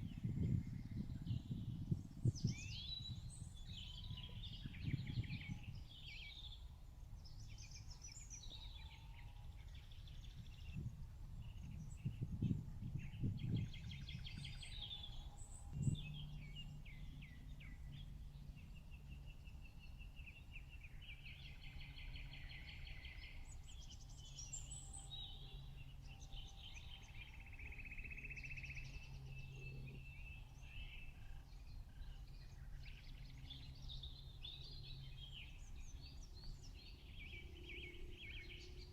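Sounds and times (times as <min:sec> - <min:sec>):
birds singing and chirping: 0:00.0 - 0:38.9
low steady hum: 0:00.0 - 0:38.9.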